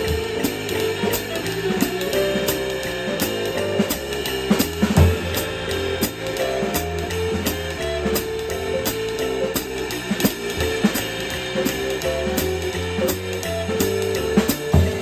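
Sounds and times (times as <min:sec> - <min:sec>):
drum kit swing beat: 0:00.0 - 0:15.0
karaoke backing track: 0:00.0 - 0:15.0.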